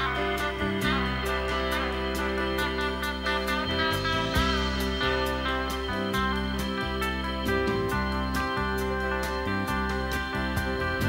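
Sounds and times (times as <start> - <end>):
live band with electric guitars: 0.0 - 11.0.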